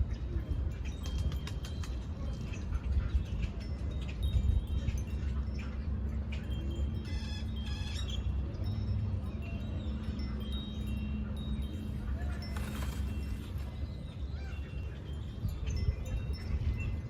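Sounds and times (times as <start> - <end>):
wind chimes ringing: 0.0 - 17.0.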